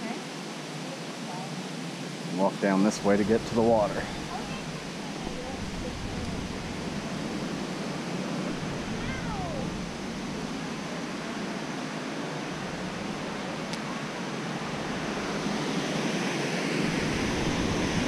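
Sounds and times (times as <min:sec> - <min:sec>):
river water rushing over dam: 0:00.0 - 0:18.0.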